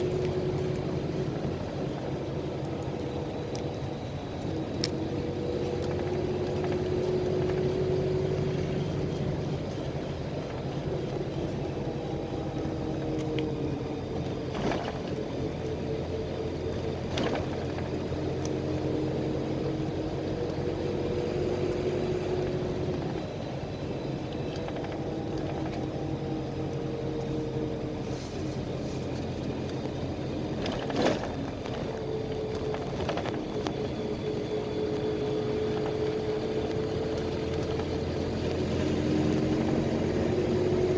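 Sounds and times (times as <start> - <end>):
bus engine hum: 0.0 - 40.9
road noise: 0.0 - 40.9.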